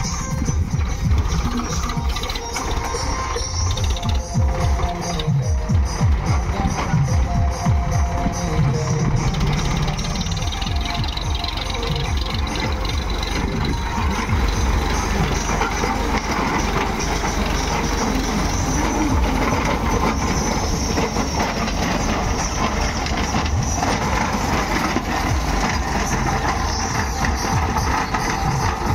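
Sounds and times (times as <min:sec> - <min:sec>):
diesel tractor engine: 0:00.0 - 0:28.9
tiller blades churning soil: 0:00.0 - 0:28.9.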